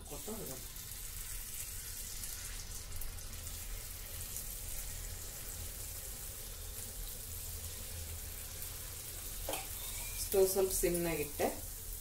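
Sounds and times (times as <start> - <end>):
ghee sizzling in a pan: 0.0 - 12.0.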